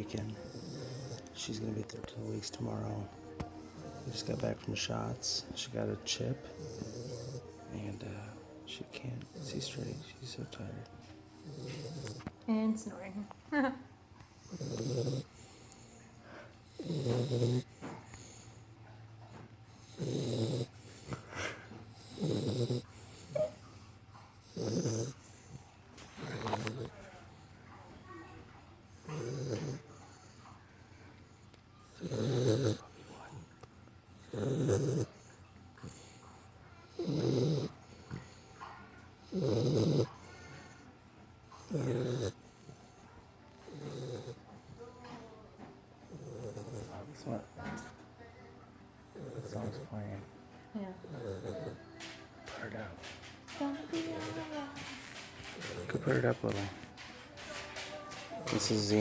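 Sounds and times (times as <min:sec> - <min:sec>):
puppy snoring: 0:00.0 - 0:13.3, 0:14.3 - 0:28.3, 0:29.0 - 0:48.1, 0:48.9 - 0:59.0.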